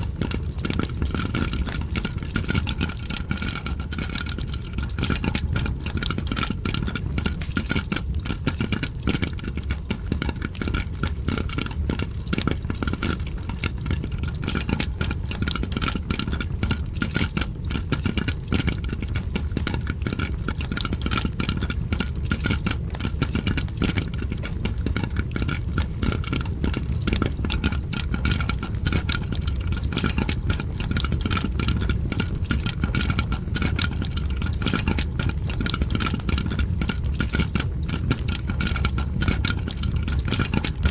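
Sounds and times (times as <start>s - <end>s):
crackling fire: 0.0s - 40.9s
popcorn popping: 0.0s - 40.9s.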